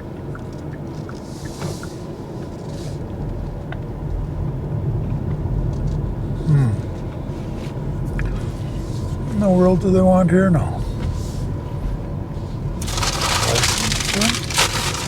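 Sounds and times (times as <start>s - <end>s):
tyre and road noise in car cabin: 0.0s - 15.0s.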